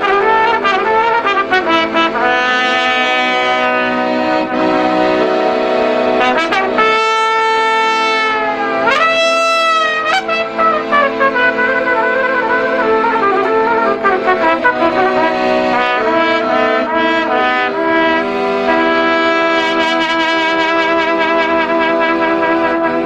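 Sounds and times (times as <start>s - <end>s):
accordion accompaniment: 0.0s - 23.0s
trumpet playing folk melody: 0.0s - 23.0s.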